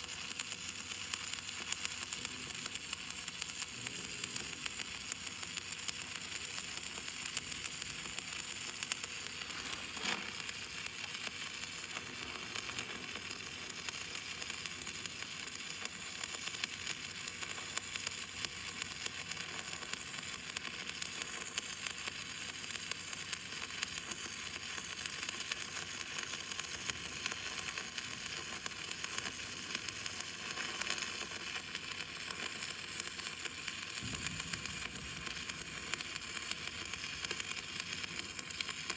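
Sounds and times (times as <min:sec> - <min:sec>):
welding arc crackling sizzle: 0:00.0 - 0:38.9.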